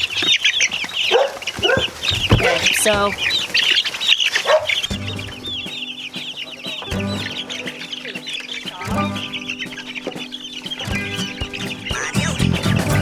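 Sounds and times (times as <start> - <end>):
chicken clucks: 0.0 - 13.0
chicks peeping: 0.0 - 13.0.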